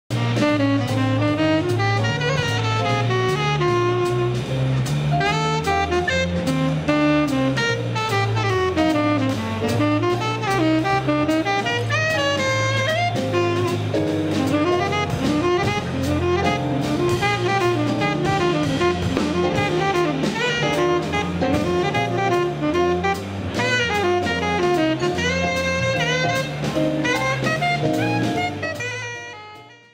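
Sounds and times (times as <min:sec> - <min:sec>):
bass: 0:00.0 - 0:29.9
drum kit: 0:00.1 - 0:29.9
saxophone melody: 0:00.1 - 0:29.9.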